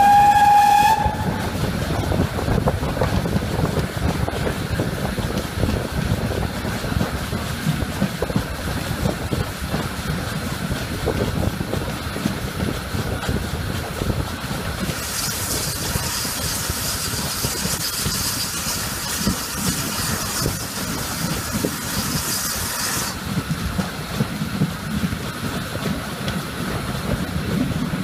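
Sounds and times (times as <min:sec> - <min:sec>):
train wheels rumbling on rails: 0:00.0 - 0:28.0
wind on microphone: 0:00.0 - 0:28.0.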